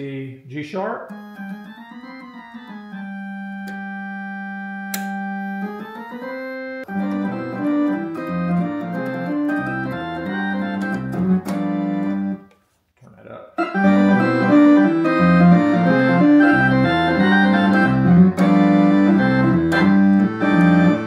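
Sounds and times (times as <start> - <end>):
organ bass line: 1.0 - 12.4, 13.6 - 21.0
electronic organ chords: 1.0 - 12.5, 13.6 - 21.0.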